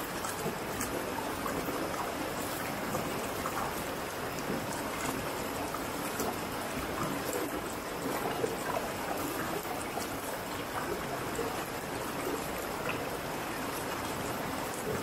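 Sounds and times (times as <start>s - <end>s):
river flowing over rocks: 0.0s - 15.0s.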